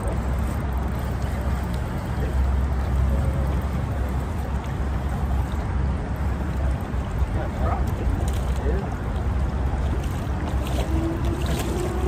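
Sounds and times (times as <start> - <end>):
water lapping on boat hull: 0.0 - 12.0
wind on microphone: 0.0 - 12.0.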